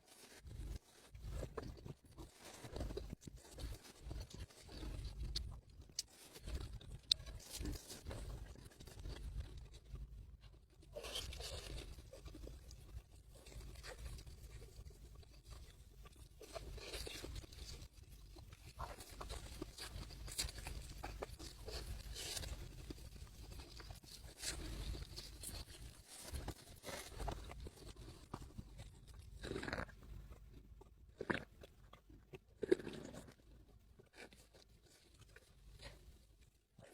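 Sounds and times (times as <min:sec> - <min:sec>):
chewing crunchy food: 0:00.0 - 0:36.9.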